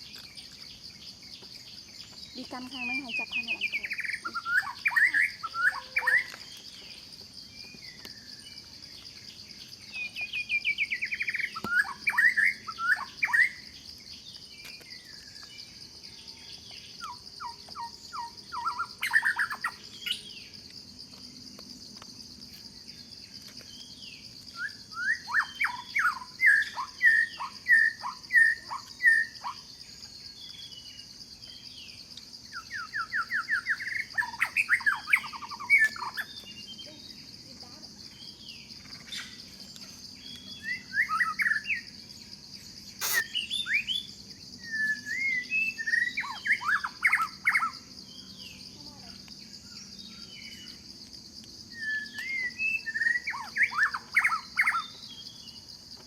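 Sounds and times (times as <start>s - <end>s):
birds chirping: 0.0s - 20.9s, 21.8s - 51.0s
insect drone: 0.0s - 56.0s.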